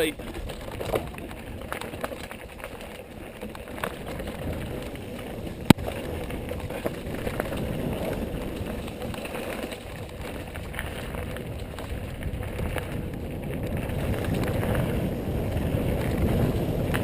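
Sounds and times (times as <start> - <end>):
bike rattling: 0.0 - 17.0
bike tyres on dirt trail: 0.0 - 17.0.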